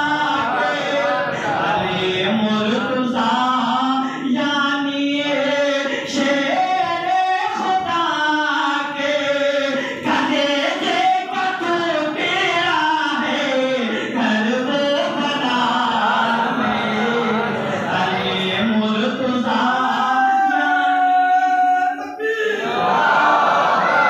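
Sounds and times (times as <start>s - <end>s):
man reciting melodically: 0.0s - 22.7s.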